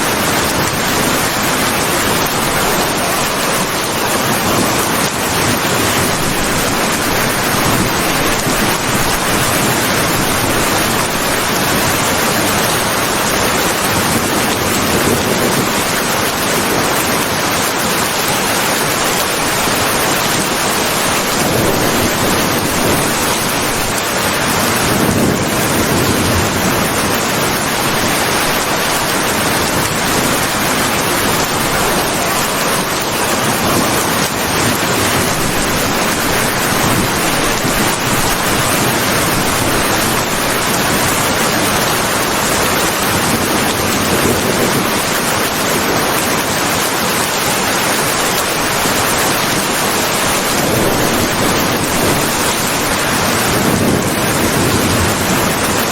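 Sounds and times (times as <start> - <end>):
heavy rain hissing: 0.0 - 55.9.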